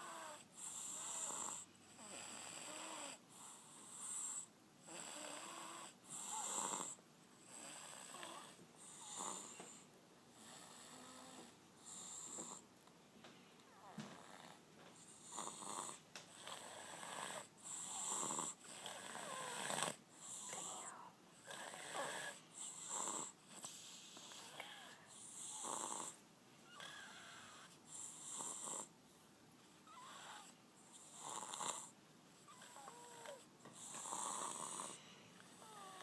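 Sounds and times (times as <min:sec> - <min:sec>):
baby snoring: 0:00.0 - 0:12.7, 0:13.7 - 0:28.9, 0:29.8 - 0:36.0.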